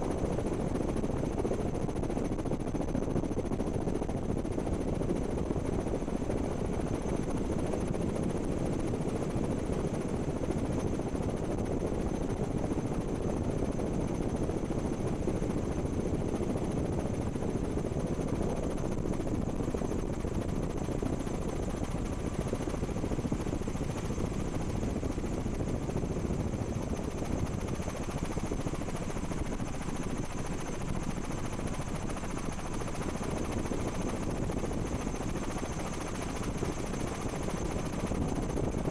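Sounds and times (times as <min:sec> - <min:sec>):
helicopter engine and rotor noise: 0:00.0 - 0:38.9.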